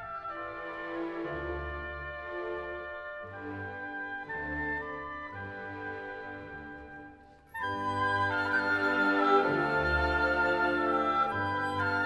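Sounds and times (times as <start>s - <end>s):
orchestral music with held chords: 0.0s - 12.0s.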